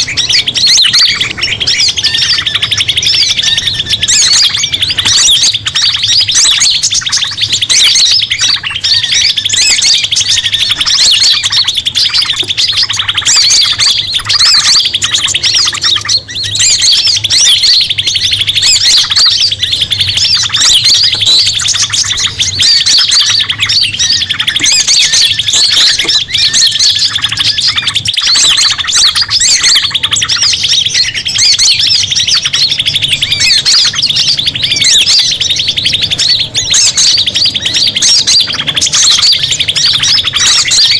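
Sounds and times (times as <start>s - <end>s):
chorus of small birds chirping: 0.0s - 40.9s.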